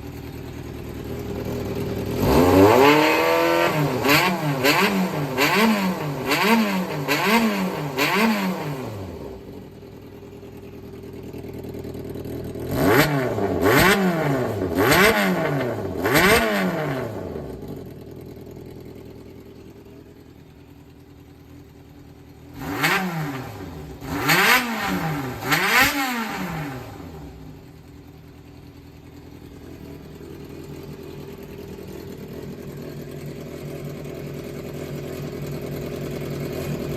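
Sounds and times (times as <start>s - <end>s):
motorcycle engine revving: 0.0s - 20.9s, 21.5s - 36.9s.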